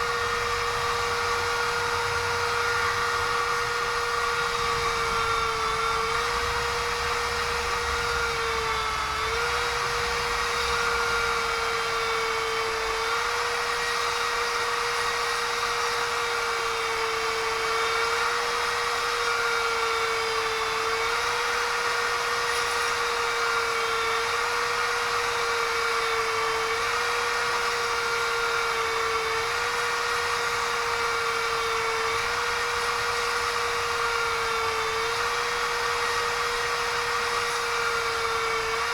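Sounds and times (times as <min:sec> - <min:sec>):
electric drill whining: 0:00.0 - 0:38.9.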